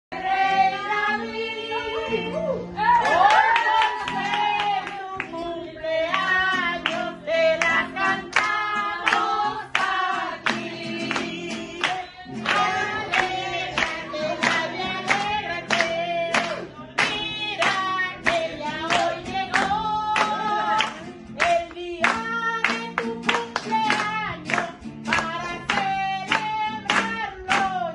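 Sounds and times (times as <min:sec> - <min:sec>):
women singing together: 0:00.1 - 0:27.9
rhythmic clapping: 0:03.0 - 0:27.9.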